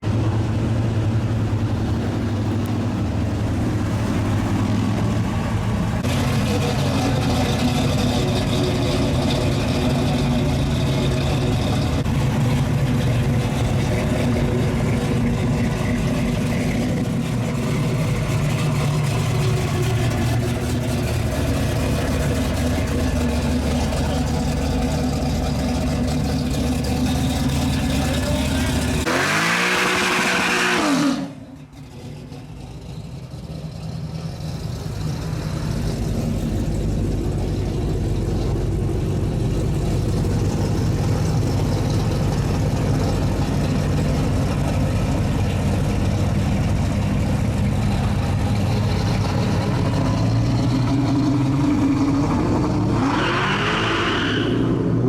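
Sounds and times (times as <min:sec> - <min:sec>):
car engines idling: 0:00.0 - 0:55.0.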